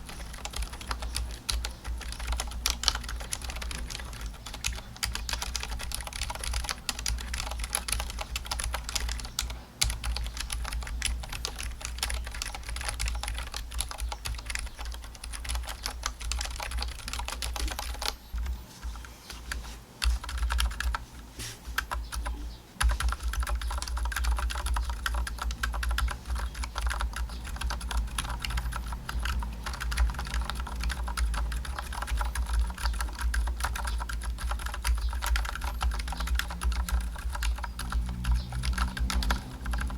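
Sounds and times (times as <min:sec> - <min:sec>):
mechanical keyboard typing: 0:00.0 - 0:21.0, 0:21.8 - 0:39.9.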